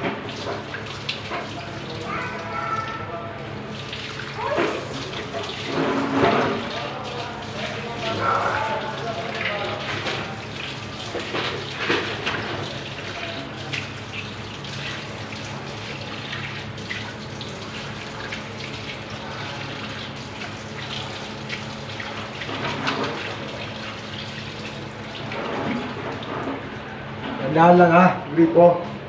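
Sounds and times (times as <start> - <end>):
water running from faucet: 0.0 - 26.6.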